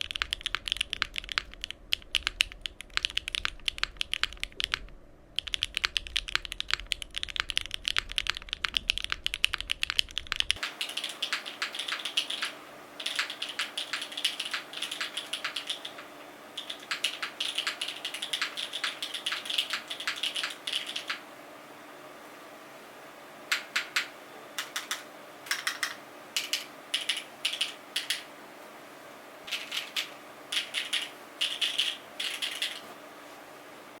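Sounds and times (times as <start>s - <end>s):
mechanical keyboard typing: 0.0s - 21.2s, 23.5s - 28.3s, 29.5s - 32.9s.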